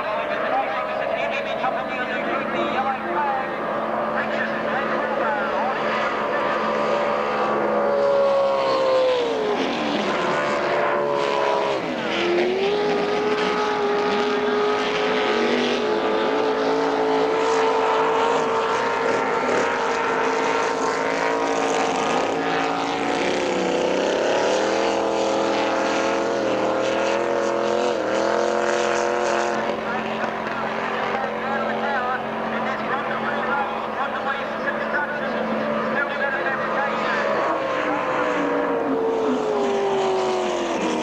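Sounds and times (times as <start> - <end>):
powerboat engine running: 0.0 - 41.0.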